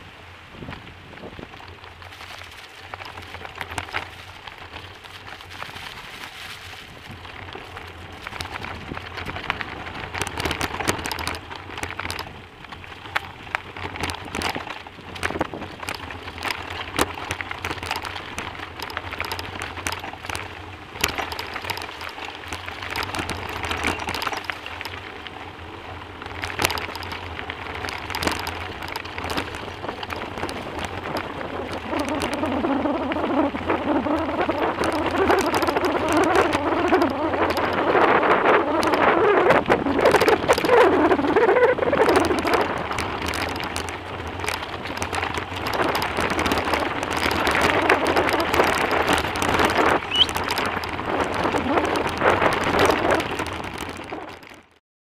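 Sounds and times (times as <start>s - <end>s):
bicycle tyres on gravel: 0.0s - 54.8s
stones clicking and rattling: 1.6s - 25.4s, 26.2s - 38.0s, 38.6s - 54.8s.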